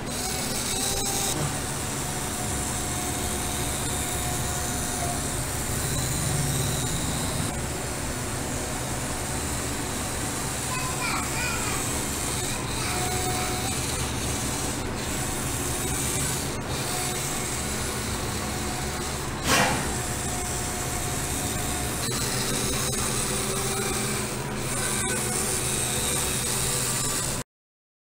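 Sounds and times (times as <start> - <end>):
toy electric motor and gears grinding: 0.0 - 27.4.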